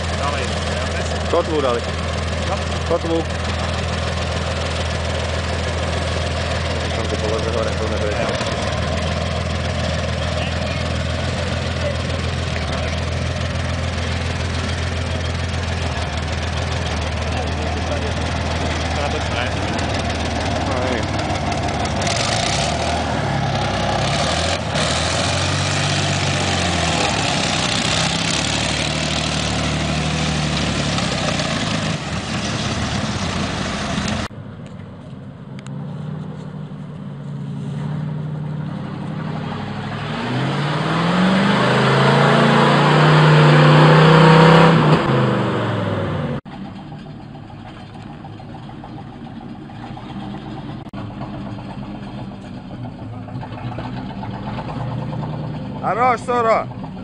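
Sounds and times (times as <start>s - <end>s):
tracked vehicle engine running: 0.0s - 57.0s
truck engine labouring: 0.0s - 57.0s
truck engine revving: 0.0s - 57.0s.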